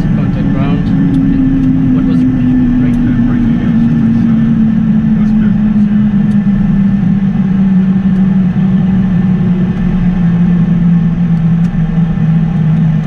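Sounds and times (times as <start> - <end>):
falling humming tone: 0.0 - 13.0
jet cockpit noise: 0.0 - 13.0.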